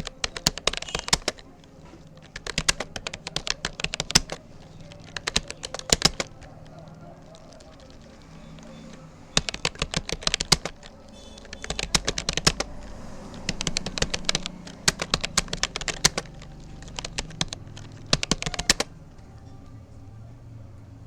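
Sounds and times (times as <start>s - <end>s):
computer keyboard typing: 0.0s - 19.8s.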